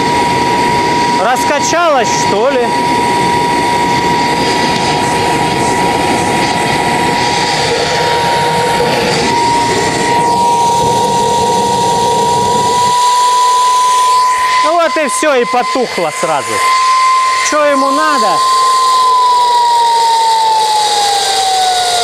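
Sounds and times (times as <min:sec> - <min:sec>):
gas turbine whine and roar: 0:00.0 - 0:22.0.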